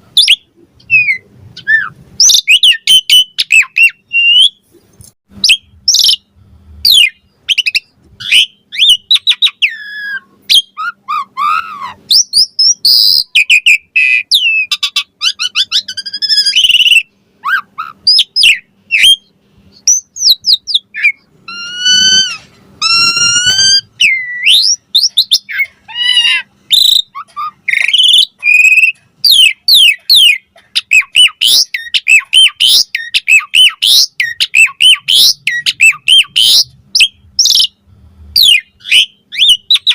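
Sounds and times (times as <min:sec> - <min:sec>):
starling singing whistles and squawks: 0:00.2 - 0:04.7, 0:05.4 - 0:37.8, 0:38.4 - 0:39.9.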